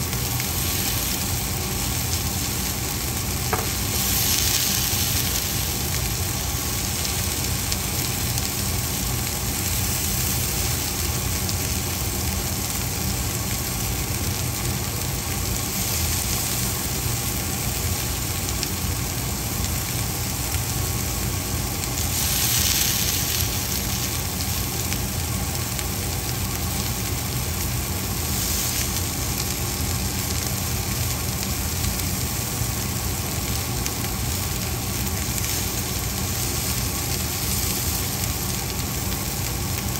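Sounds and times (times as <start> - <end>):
constant low hum: 0.0 - 39.9
food sizzling in a pan: 0.0 - 39.9.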